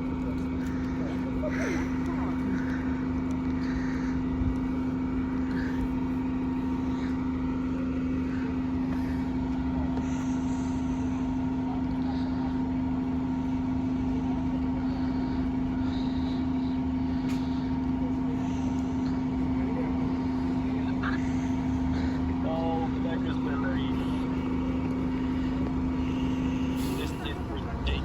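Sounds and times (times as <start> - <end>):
steady machine hum: 0.0 - 28.0
traffic noise: 0.0 - 28.0.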